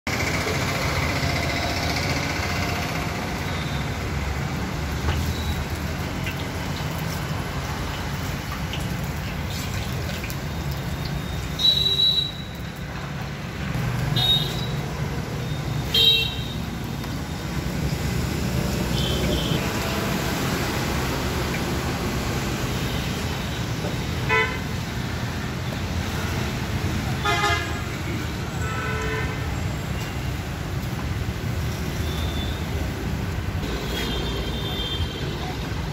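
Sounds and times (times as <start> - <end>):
street traffic noise: 0.0 - 35.9.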